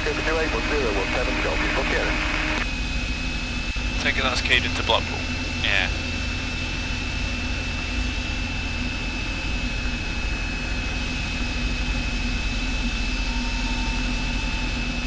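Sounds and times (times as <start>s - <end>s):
propeller engine droning: 0.0s - 15.0s.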